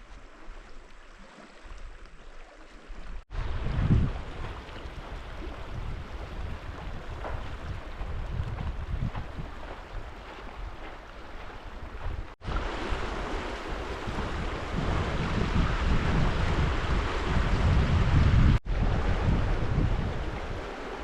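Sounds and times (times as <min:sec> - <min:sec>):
wind gusting on microphone: 0:03.3 - 0:21.0.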